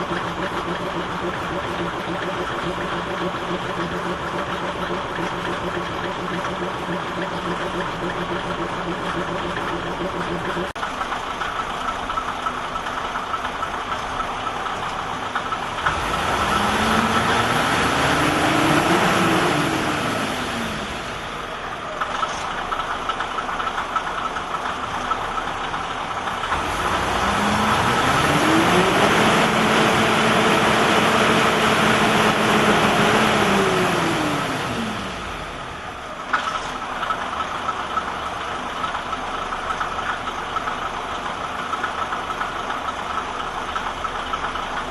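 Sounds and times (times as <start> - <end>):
diesel railcar engine idling and revving: 0.0 - 44.9.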